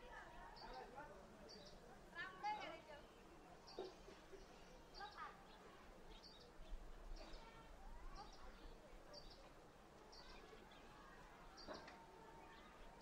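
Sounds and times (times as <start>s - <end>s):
distant indistinct voices: 0.0s - 13.0s.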